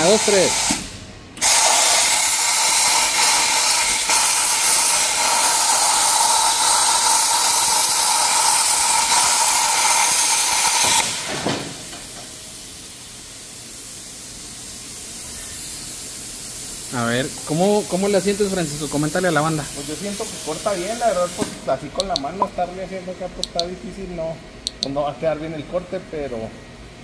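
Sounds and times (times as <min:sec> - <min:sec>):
plasma cutter hissing: 0:00.0 - 0:22.4.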